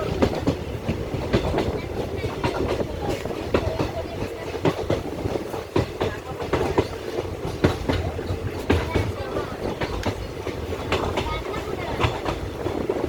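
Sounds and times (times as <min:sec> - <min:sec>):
train rumbling on track: 0:00.0 - 0:13.0
wheels clanking and knocking: 0:00.0 - 0:13.0.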